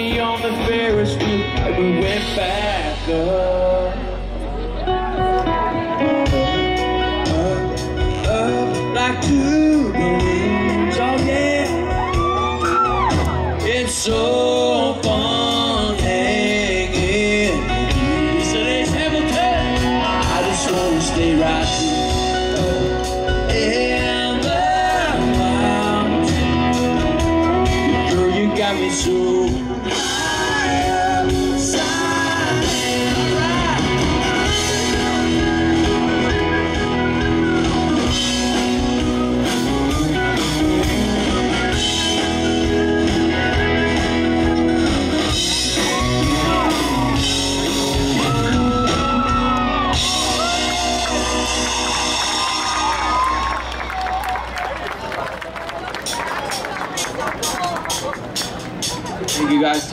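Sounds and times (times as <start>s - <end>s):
man singing: 0.0s - 51.7s
live country band playing: 0.0s - 59.9s.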